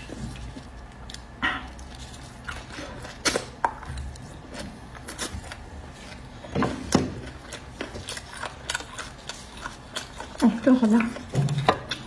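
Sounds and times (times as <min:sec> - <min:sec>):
chewing and sucking bone marrow: 0:00.0 - 0:12.0.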